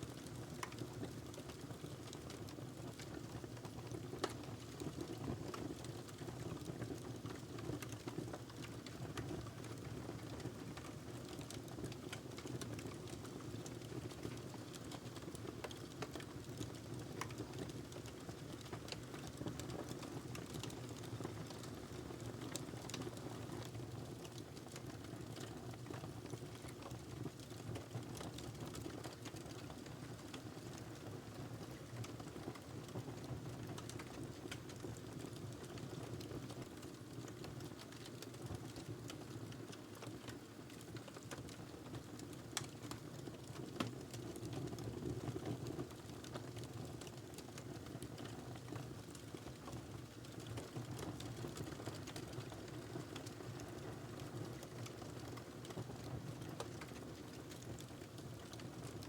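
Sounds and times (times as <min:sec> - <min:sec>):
fire crackling and popping: 0:00.1 - 0:59.0.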